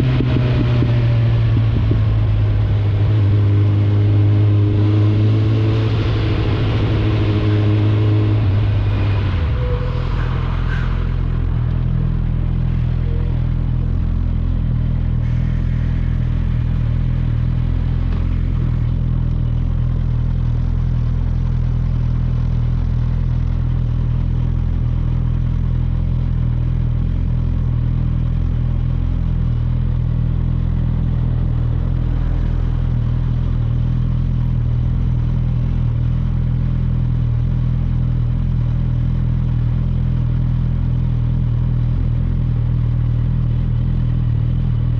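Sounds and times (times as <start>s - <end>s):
motorcycle engine running steadily: 0.0s - 44.9s.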